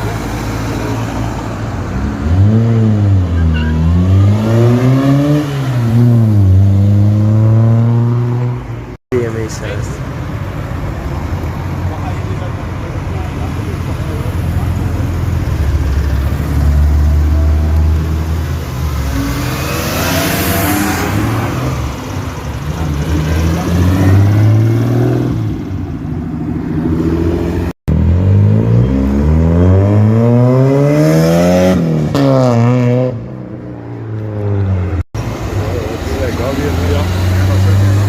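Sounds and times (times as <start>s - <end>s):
car engines accelerating hard: 0.0s - 38.0s.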